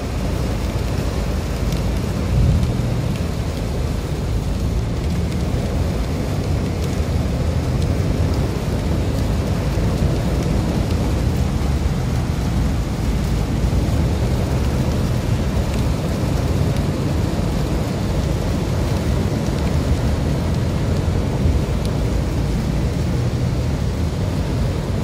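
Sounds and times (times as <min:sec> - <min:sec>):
rain on car: 0:00.0 - 0:25.0
raindrop ticks: 0:00.0 - 0:25.0
tyres on wet road: 0:00.0 - 0:25.0.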